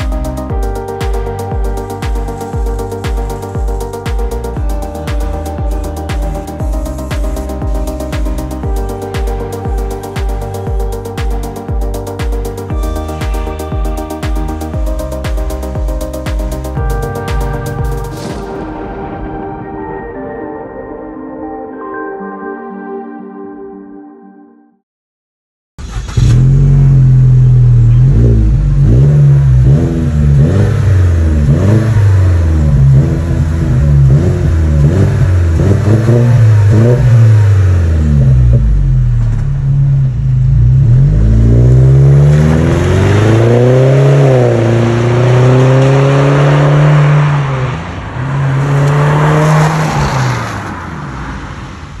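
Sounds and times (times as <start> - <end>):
car exhaust revving: 0.0 - 18.6, 25.8 - 52.0.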